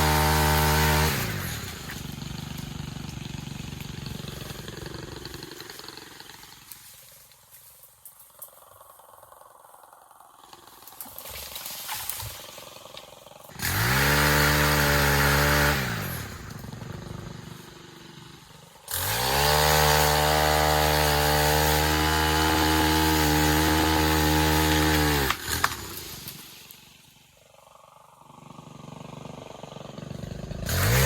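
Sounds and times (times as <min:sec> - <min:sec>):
battery pole saw running: 0:00.0 - 0:07.4, 0:08.5 - 0:31.0.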